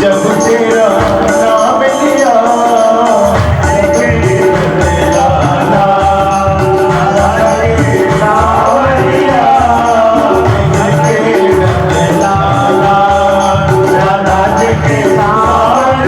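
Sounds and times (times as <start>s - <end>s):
person singing a melody: 0.0s - 16.0s.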